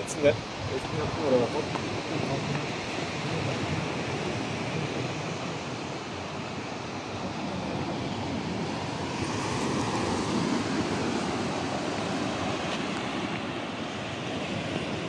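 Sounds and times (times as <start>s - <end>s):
surf on sandy beach: 0.0s - 15.0s
wind on microphone: 0.0s - 15.0s.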